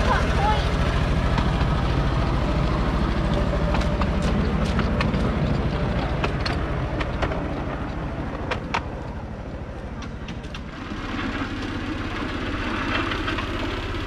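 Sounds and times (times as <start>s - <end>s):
train rumble: 0.0s - 14.0s
wheels clicking over rail joints: 0.0s - 14.0s.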